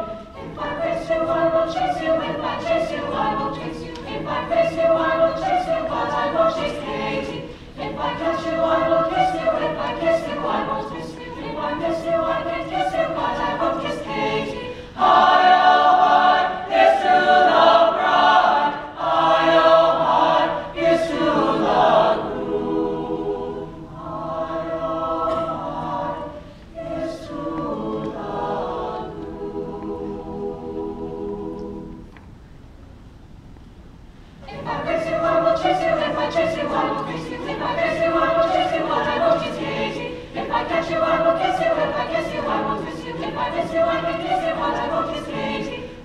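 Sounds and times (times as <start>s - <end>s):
mixed choir singing: 0.0s - 32.1s, 34.4s - 46.0s.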